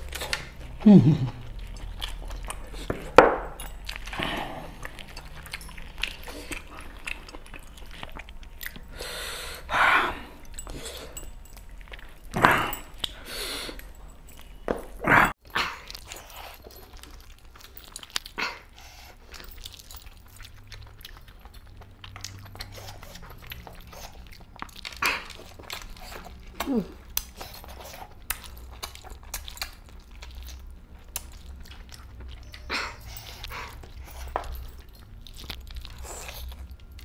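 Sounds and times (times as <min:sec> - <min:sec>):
man chewing and lip-smacking: 0:00.0 - 0:14.7, 0:15.4 - 0:37.0.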